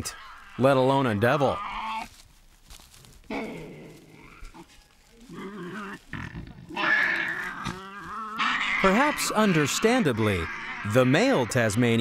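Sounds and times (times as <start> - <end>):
animal joeys calling harshly: 0.0 - 2.2, 3.2 - 12.0.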